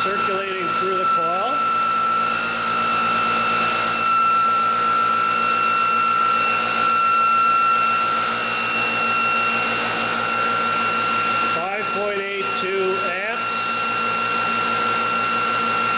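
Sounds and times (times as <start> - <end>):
electric motor whine: 0.0 - 15.9.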